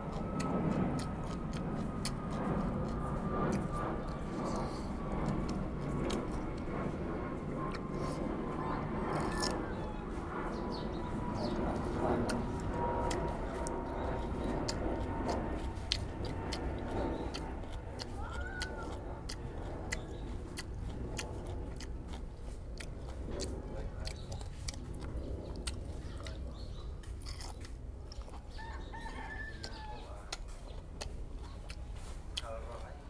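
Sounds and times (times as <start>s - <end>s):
crunchy chewing of vegetables: 0.0s - 33.0s.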